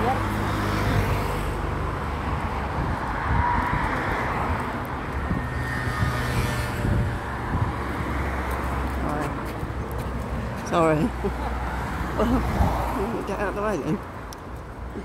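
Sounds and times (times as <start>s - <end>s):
rumble of passing cars: 0.0s - 15.0s.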